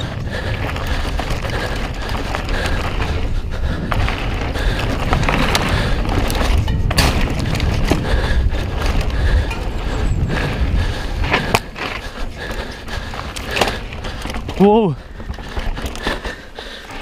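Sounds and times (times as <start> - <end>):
bike rattling: 0.0 - 17.0
bike tyre rumble on dirt: 0.0 - 17.0
wind buffeting microphone: 0.0 - 17.0.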